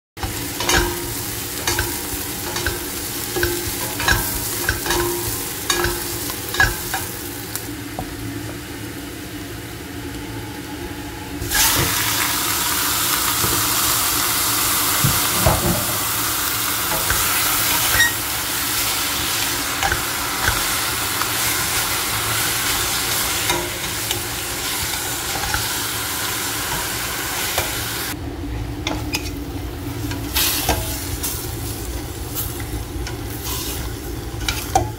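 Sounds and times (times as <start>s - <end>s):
food sizzling in pot: 0.2s - 34.9s.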